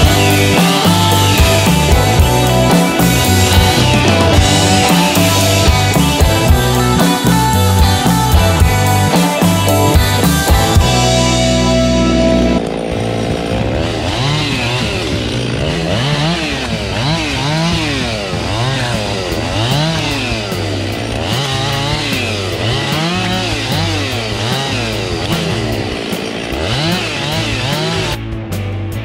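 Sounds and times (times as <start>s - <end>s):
music: 0.0s - 12.7s, 13.7s - 29.0s
chainsaw revving: 0.0s - 28.7s.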